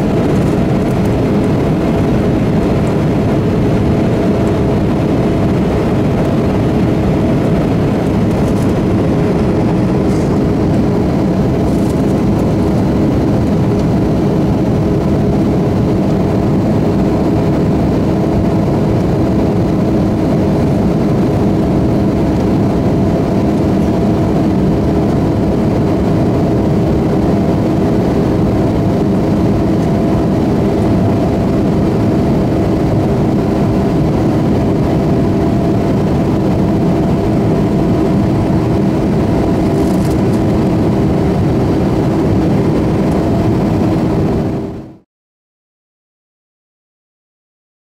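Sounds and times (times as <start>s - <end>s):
constant engine hum: 0.0s - 45.0s
jet engine and airflow rush: 0.0s - 45.1s.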